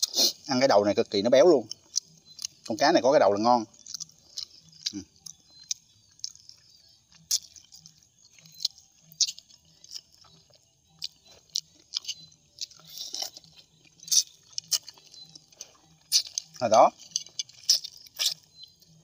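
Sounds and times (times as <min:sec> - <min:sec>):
man chewing with wet smacks: 0:01.6 - 0:19.0.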